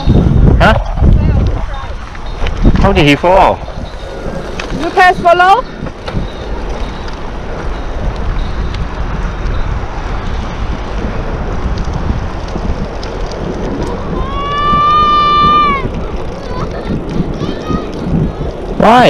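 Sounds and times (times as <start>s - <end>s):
bicycle rolling on pavement: 0.0s - 19.0s
wind buffeting microphone: 0.0s - 19.0s.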